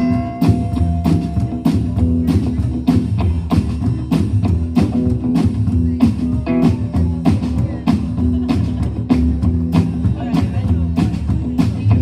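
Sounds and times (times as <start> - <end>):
guitar: 0.0 - 12.0
steady drum beat: 0.0 - 12.0.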